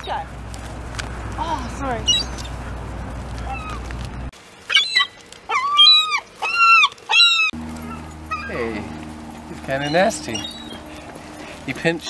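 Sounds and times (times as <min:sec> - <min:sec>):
gulls calling: 0:00.0 - 0:12.0
outdoor noise: 0:00.0 - 0:12.0.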